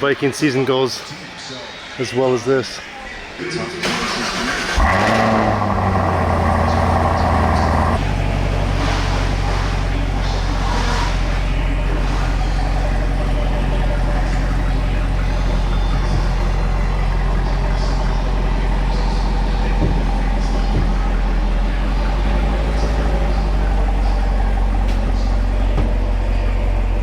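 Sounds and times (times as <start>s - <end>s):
car engine idling: 3.9s - 27.0s.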